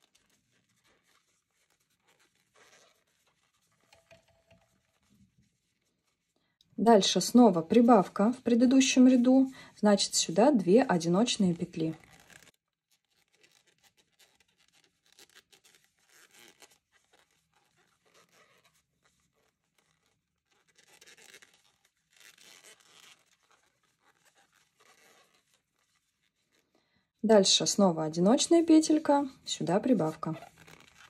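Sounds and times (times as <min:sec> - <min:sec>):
yarn rustling through crochet stitches: 0:00.0 - 0:26.6, 0:27.2 - 0:31.0.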